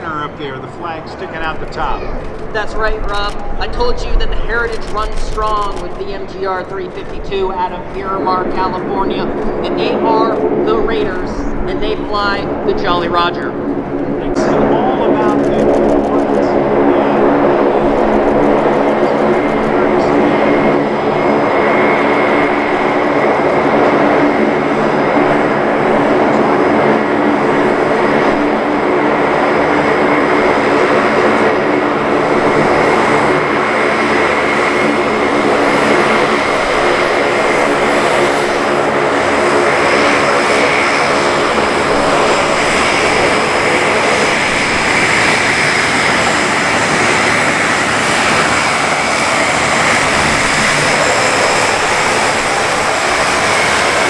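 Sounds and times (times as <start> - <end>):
high turbine whine: 0.0 - 54.0
propeller drone: 0.0 - 54.0.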